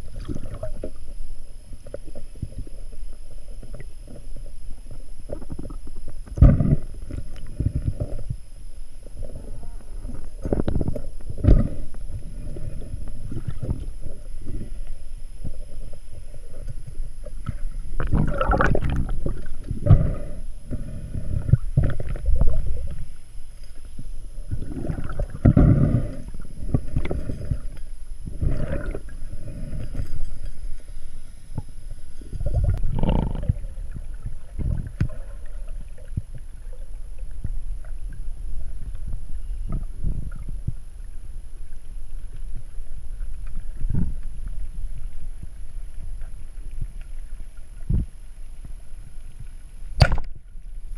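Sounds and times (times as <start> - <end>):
faint high whine: 0.0 - 50.9
underwater rushing and gurgling water: 0.0 - 50.9.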